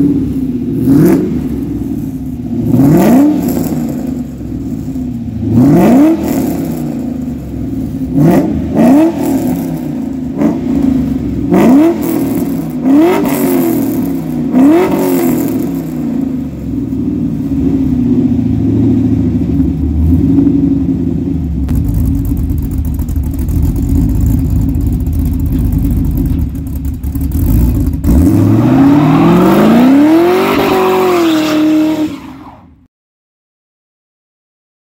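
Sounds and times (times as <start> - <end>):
car engine revving and rumbling: 0.0 - 32.9.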